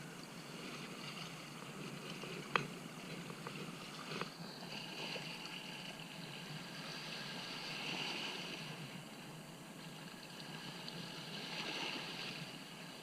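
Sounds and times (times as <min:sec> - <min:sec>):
water lapping at shoreline: 0:00.0 - 0:13.0.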